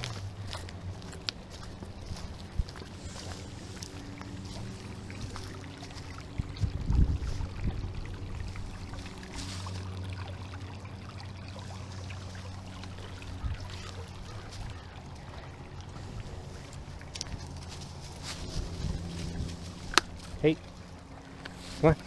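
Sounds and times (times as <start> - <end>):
creek trickling over stones: 0.0 - 22.0.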